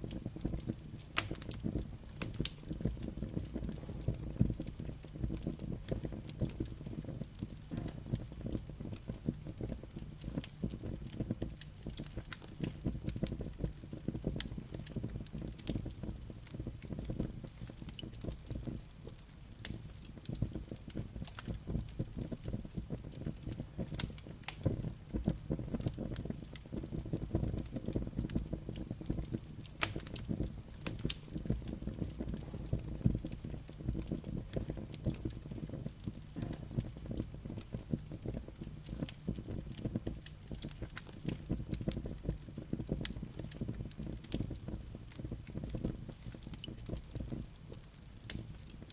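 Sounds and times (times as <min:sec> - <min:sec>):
fire popping and crackling: 0:00.0 - 0:48.9
low rush of flames: 0:00.0 - 0:48.9.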